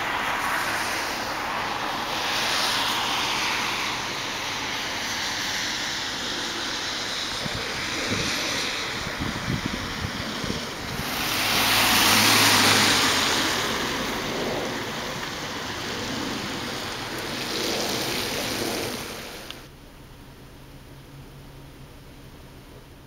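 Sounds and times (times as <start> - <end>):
wind buffeting microphone: 0.0 - 19.6.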